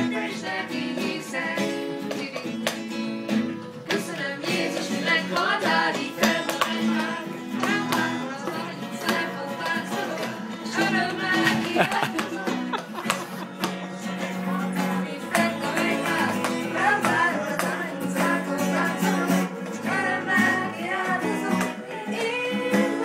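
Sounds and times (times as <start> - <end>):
voices singing along: 0.0 - 2.3, 3.8 - 23.0
acoustic guitar strummed: 0.0 - 23.0.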